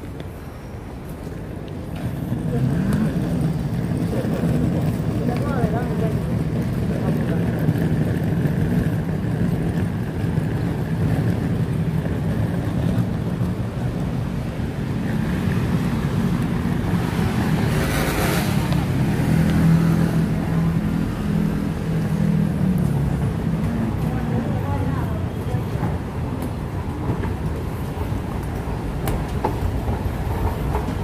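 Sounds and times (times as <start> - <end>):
city traffic rumble: 0.0 - 31.0.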